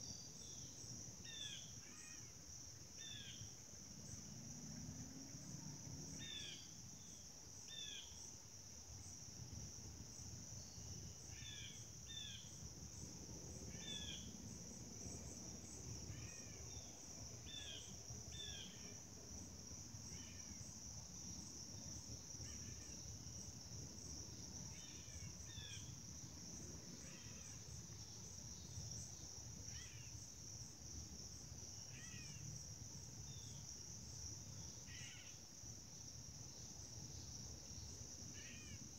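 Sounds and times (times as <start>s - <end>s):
insect chorus trilling: 0.0s - 38.9s.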